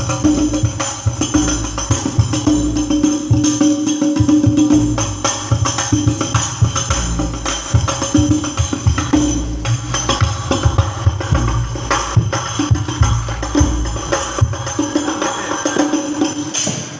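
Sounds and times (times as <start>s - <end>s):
jingling frame drums and tambourines: 0.0s - 16.9s.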